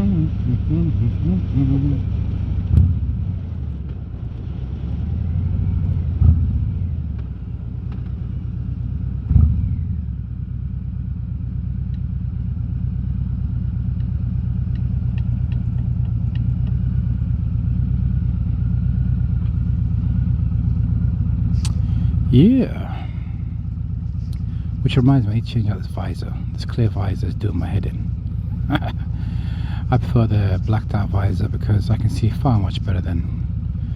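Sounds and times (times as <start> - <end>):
motorcycle engine rumble: 0.0 - 33.9.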